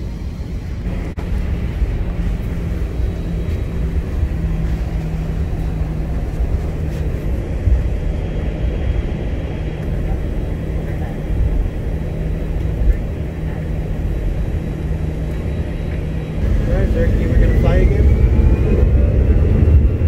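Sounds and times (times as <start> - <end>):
constant hum: 0.0 - 20.0
jet engine cabin rumble: 0.0 - 20.0.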